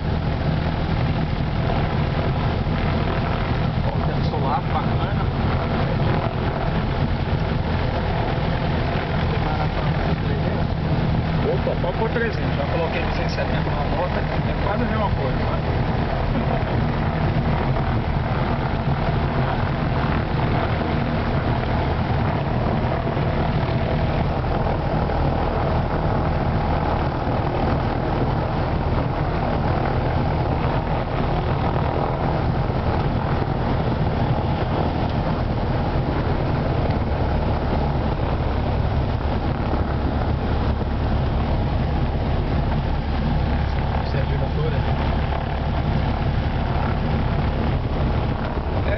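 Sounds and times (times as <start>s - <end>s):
propeller airplane engine droning: 0.0s - 48.9s.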